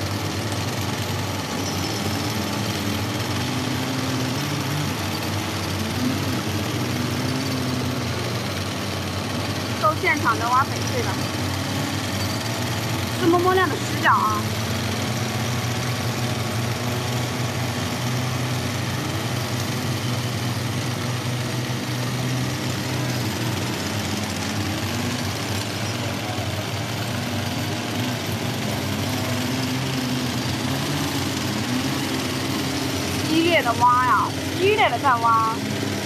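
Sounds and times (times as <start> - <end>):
engine humming steadily: 0.0 - 36.0.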